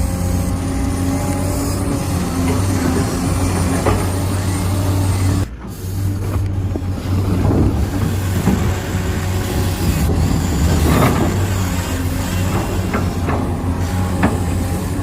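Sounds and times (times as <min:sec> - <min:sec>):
mechanical rattling and whirring: 0:00.0 - 0:15.0
model vehicle motor hum: 0:00.0 - 0:15.0.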